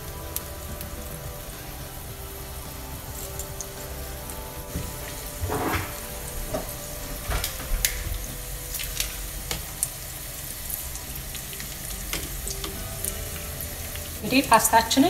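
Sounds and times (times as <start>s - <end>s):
garlic sizzling in oil: 0.0s - 15.0s.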